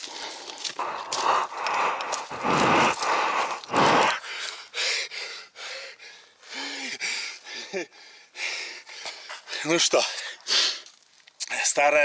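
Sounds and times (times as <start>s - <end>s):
man panting hard: 0.0s - 9.6s.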